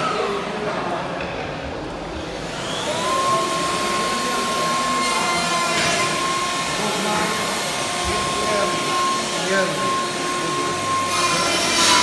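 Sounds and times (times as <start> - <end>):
dust extractor motor whining: 2.3 - 12.0.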